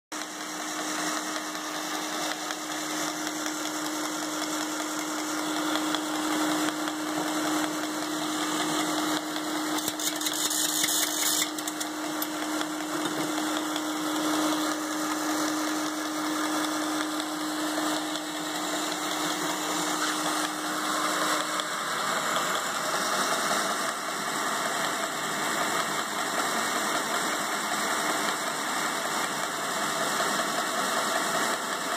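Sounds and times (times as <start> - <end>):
grinder belt noise: 0.1 - 31.9
motor hum: 0.2 - 28.6.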